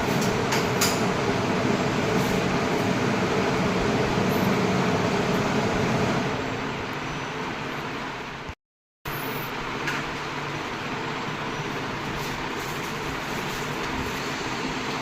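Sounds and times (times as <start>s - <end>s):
exhaust fan running: 0.0s - 8.5s, 9.5s - 15.0s.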